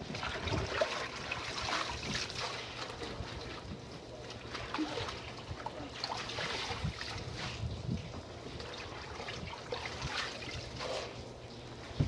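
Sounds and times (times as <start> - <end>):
water splashing and dripping: 0.0 - 11.2.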